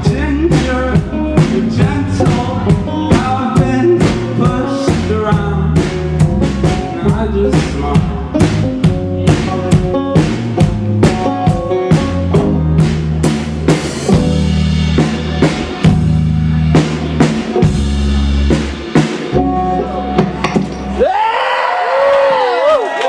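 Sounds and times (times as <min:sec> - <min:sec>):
live band playing: 0:00.0 - 0:21.2
drum kit beat: 0:00.0 - 0:21.3.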